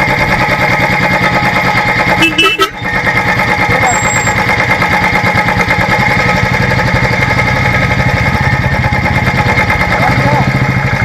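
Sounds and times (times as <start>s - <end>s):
single-cylinder engine running: 0.0s - 11.0s.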